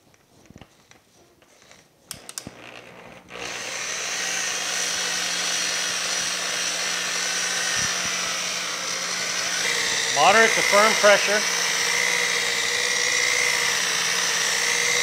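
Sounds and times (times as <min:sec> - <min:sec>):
electric polisher running: 0:02.2 - 0:15.0.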